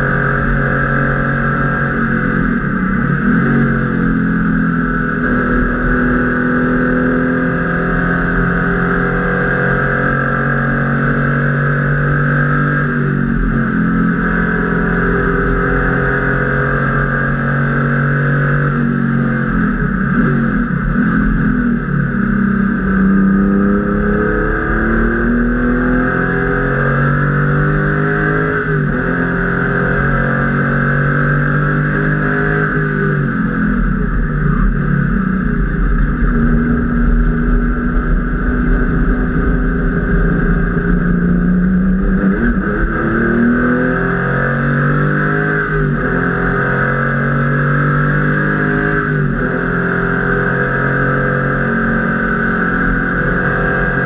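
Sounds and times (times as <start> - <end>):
car engine revving through gears: 0.0 - 54.0
road and wind noise: 0.0 - 54.0.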